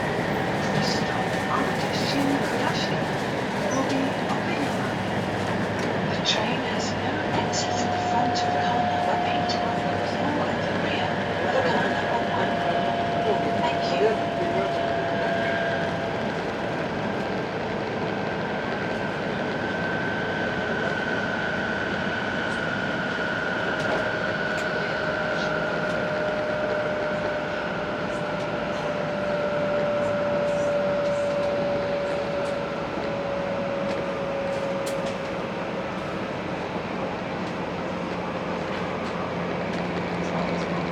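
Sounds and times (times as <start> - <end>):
train running rumble: 0.0 - 40.9.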